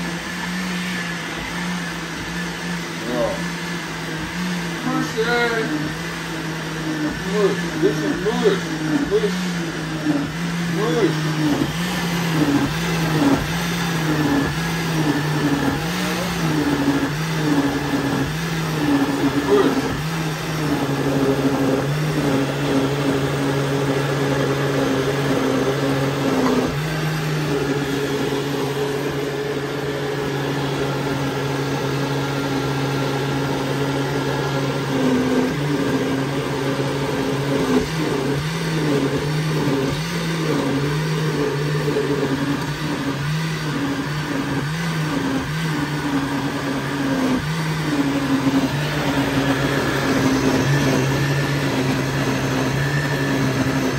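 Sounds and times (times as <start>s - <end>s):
blender motor running: 0.0s - 53.9s.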